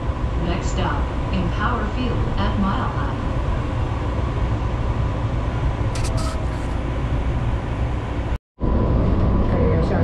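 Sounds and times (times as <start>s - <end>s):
light rail train rumbling: 0.0s - 10.0s.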